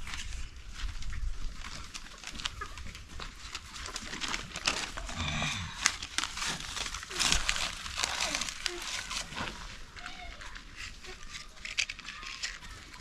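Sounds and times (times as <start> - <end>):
sticks and leaves crackling: 0.0 - 13.0.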